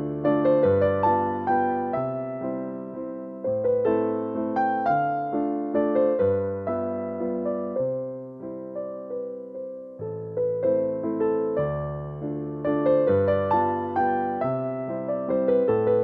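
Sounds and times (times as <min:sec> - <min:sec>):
gentle piano chords and melody: 0:00.0 - 0:16.0.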